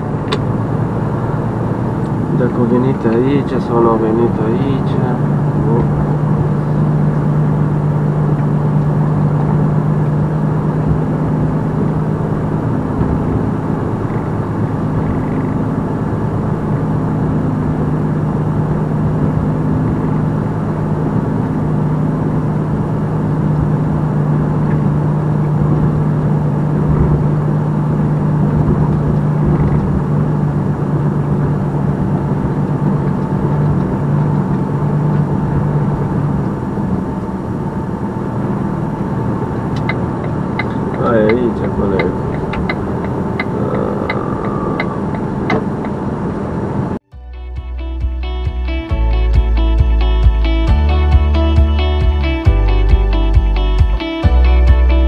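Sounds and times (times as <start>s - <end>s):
diesel truck engine drone: 0.0s - 55.0s.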